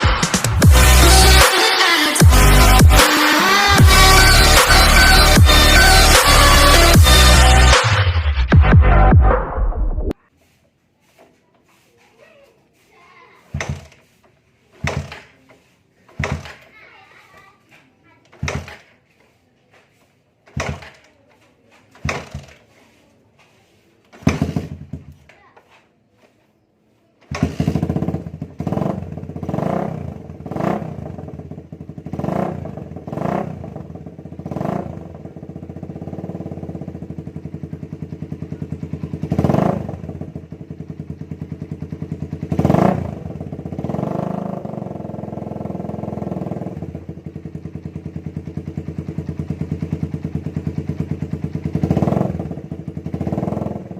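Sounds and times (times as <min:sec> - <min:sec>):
motorcycle engine idling and revving: 0:00.0 - 0:10.2, 0:13.5 - 0:17.0, 0:17.6 - 0:25.8, 0:27.2 - 0:53.9.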